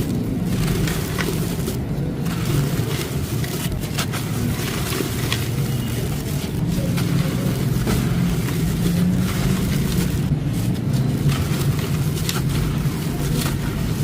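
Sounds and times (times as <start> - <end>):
sand crunching in a clay pot: 0.0 - 14.0
small crackles: 0.0 - 14.0.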